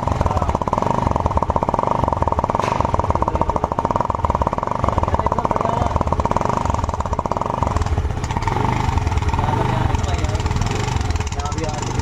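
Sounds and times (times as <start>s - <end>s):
scooter exhaust idling: 0.0s - 12.0s.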